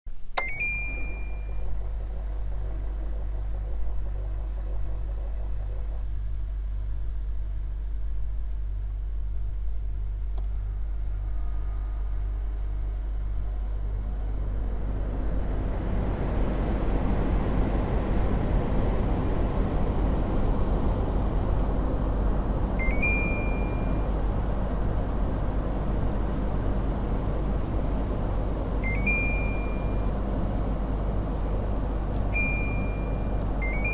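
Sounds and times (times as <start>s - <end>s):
air conditioner humming: 0.1s - 33.9s.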